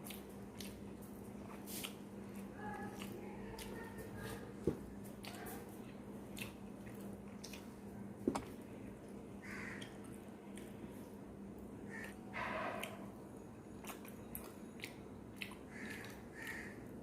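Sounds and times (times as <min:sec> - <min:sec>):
wet chewing: 0:00.0 - 0:11.1, 0:13.7 - 0:16.9.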